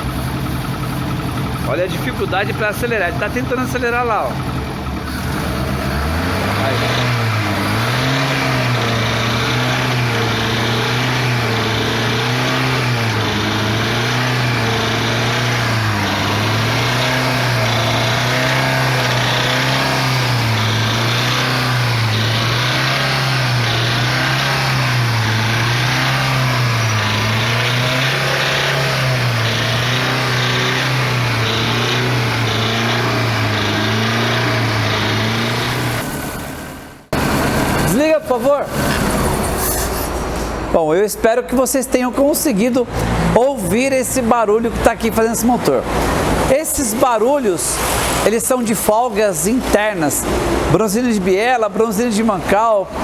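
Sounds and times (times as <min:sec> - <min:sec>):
car engine running: 0:00.0 - 0:51.5.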